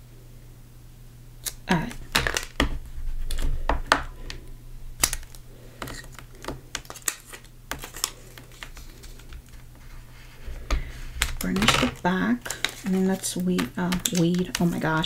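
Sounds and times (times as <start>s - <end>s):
vinyl sheets clicking and crackling: 1.4s - 15.0s.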